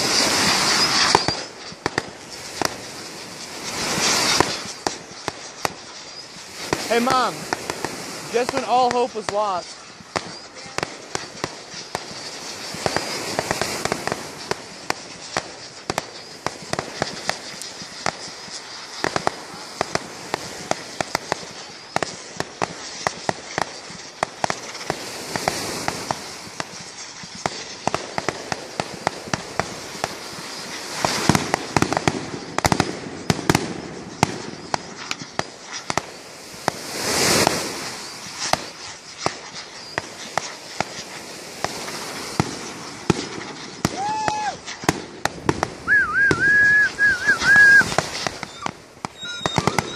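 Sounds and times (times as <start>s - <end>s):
fireworks cracking and popping: 0.0s - 49.9s
hissing crackle: 0.0s - 49.9s.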